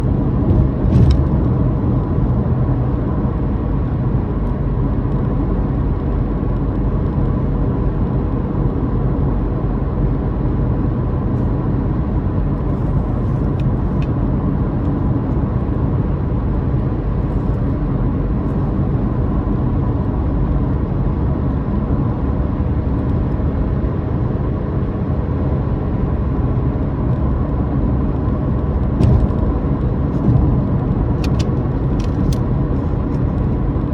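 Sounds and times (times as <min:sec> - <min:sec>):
road noise rumble: 0:00.0 - 0:33.9.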